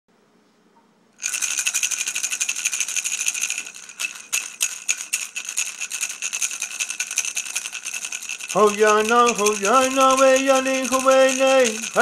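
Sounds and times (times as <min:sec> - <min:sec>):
hand rattle shaken rapidly: 0:01.2 - 0:12.0.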